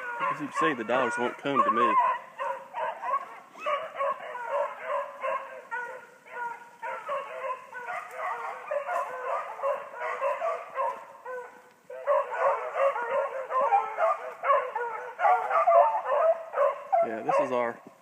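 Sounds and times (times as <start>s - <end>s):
dogs baying and yipping: 0.0s - 18.0s.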